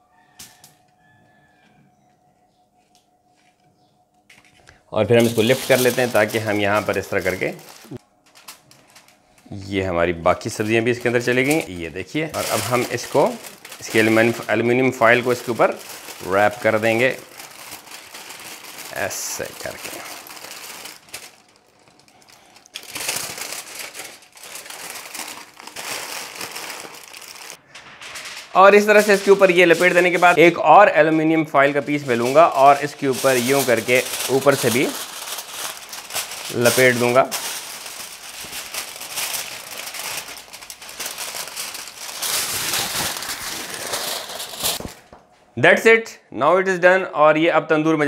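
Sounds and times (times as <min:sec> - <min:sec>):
aluminium foil crinkling: 0:04.3 - 0:45.2.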